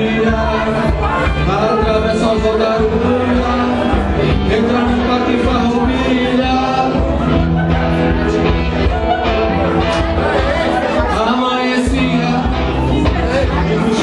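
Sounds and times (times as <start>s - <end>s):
man singing into microphone: 0.0s - 14.0s
strummed guitar: 0.0s - 14.0s.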